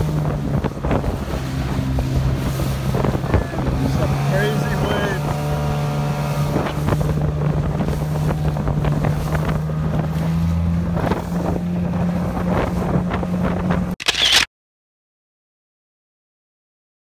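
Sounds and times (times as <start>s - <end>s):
motorboat engine running: 0.0s - 14.0s
wind buffeting microphone: 0.0s - 14.0s.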